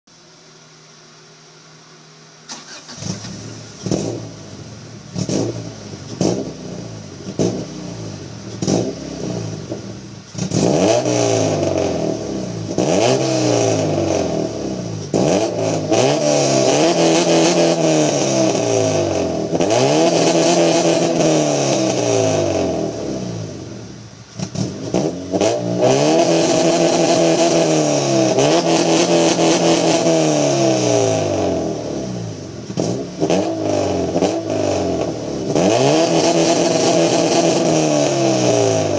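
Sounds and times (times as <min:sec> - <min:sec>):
car engine revving: 0:02.5 - 0:38.9.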